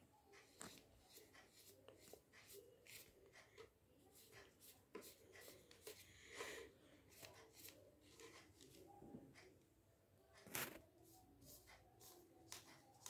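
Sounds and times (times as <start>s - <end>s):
scratchy paintbrush strokes: 0.2s - 9.5s, 10.4s - 13.0s.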